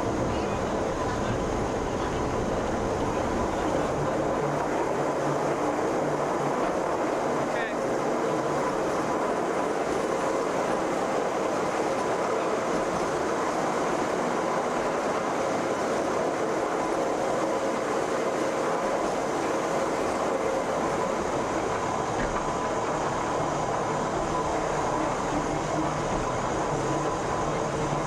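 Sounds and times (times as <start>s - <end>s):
cog railway train rumbling and rattling: 0.0s - 28.0s.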